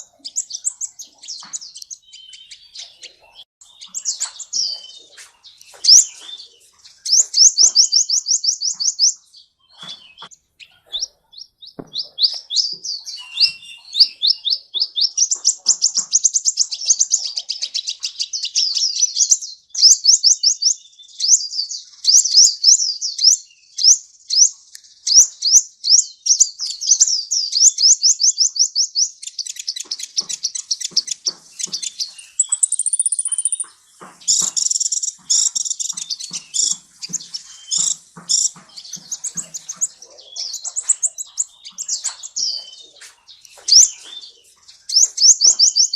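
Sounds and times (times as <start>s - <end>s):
sunbird trilling song: 0.0s - 45.9s.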